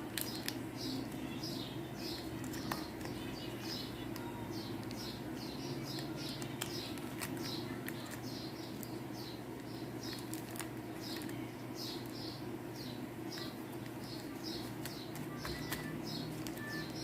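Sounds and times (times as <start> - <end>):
steady low hum: 0.0 - 17.0
bird chirping: 0.2 - 17.0.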